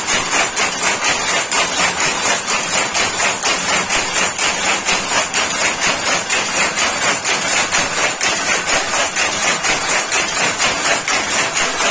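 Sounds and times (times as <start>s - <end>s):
power loom clattering: 0.0s - 11.9s.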